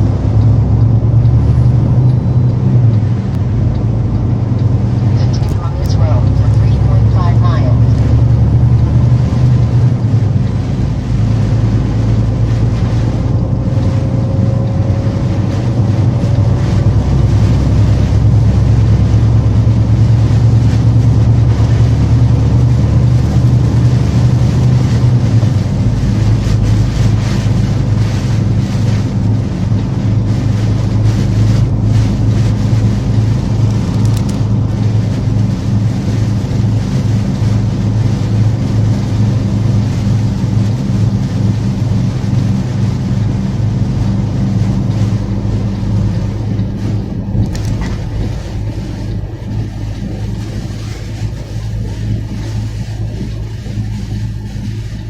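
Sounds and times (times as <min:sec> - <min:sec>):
truck driving rumble: 0:00.0 - 0:55.0
wind and road noise: 0:00.0 - 0:55.0.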